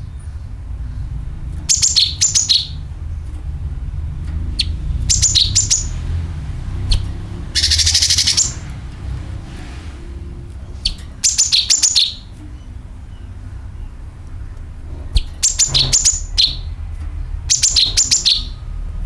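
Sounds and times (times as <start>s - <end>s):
bird chirping and trilling: 0.0s - 3.4s, 4.4s - 8.8s, 10.7s - 18.8s.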